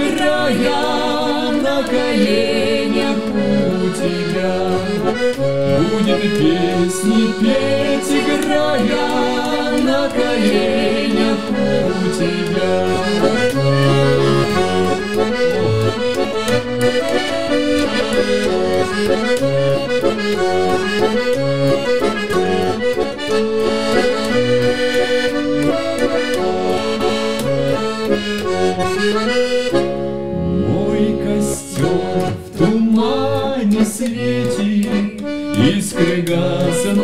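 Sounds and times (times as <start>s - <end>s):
button accordion melody: 0.0s - 37.0s.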